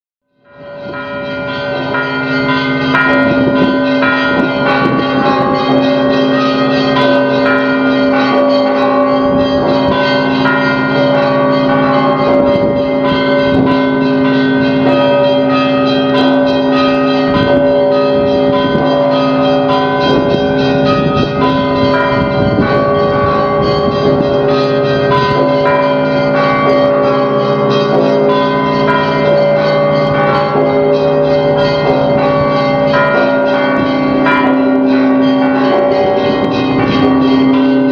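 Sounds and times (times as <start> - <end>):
church bells ringing: 0.3 - 37.9
hum of deep bells: 0.3 - 37.9.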